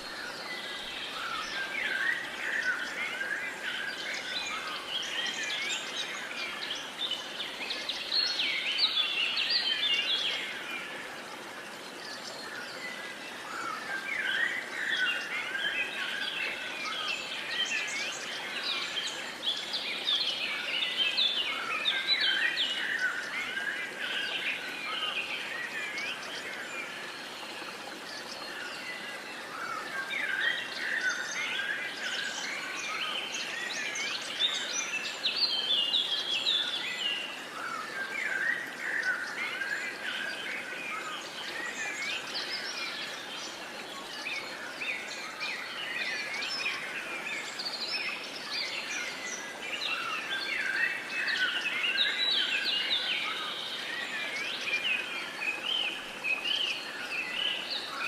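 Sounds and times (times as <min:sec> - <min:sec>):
faint steady hiss: 0:00.0 - 0:58.0
songbirds chirping and trilling: 0:00.0 - 0:58.0.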